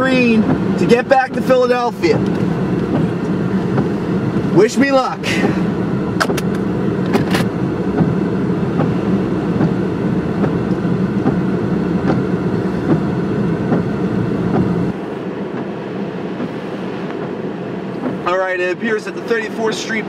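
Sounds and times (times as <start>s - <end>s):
car cabin rumble: 0.0s - 20.0s
rain on car body: 0.0s - 20.0s
wind: 0.0s - 20.0s.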